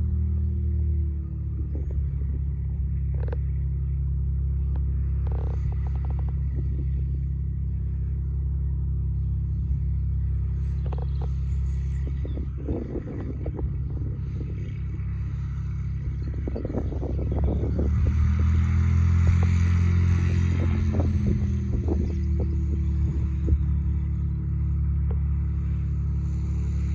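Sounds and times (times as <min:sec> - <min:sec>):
low engine drone: 0:00.0 - 0:26.9.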